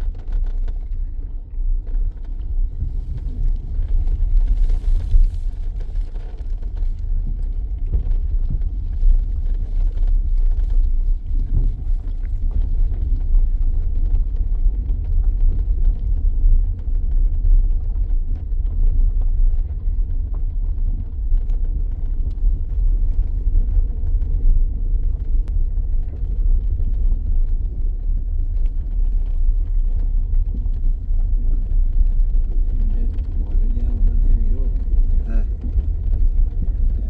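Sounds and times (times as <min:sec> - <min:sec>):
low rumble: 0:00.0 - 0:37.0.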